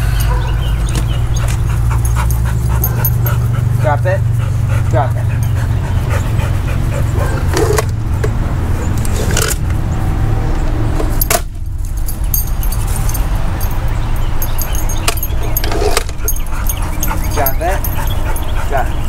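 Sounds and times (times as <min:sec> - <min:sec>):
light metallic jingling: 0:00.0 - 0:07.8, 0:11.0 - 0:19.0
steady low rumble: 0:00.0 - 0:19.0.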